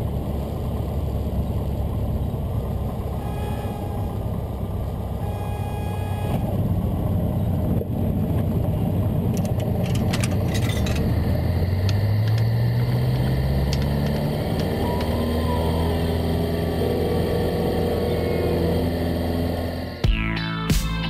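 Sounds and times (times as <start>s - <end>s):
small plane engine at high power: 0.0s - 20.1s.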